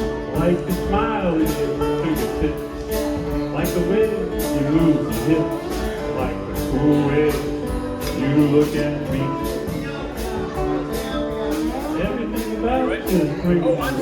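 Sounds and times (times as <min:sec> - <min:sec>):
guitar strumming: 0:00.0 - 0:14.0
slide guitar gliding notes: 0:00.0 - 0:14.0.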